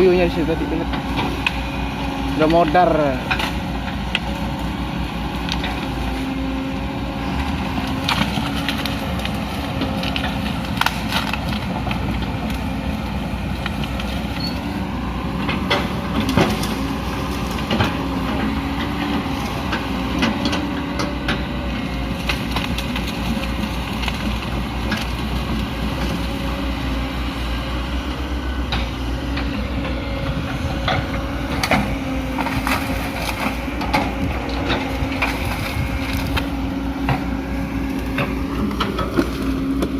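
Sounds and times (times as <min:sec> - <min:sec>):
wood and branches cracking: 0:00.0 - 0:29.5, 0:30.4 - 0:39.9
excavator diesel engine running: 0:00.0 - 0:39.9.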